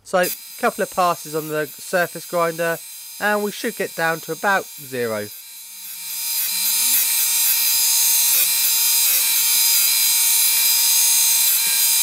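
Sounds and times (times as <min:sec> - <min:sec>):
grinder wheel grinding steel: 0:00.2 - 0:12.0.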